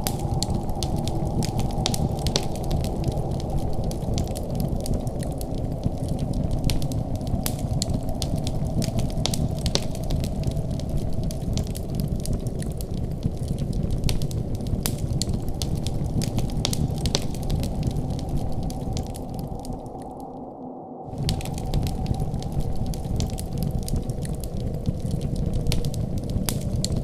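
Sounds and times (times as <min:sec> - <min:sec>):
wood fire crackling: 0:00.0 - 0:20.4, 0:21.1 - 0:27.0.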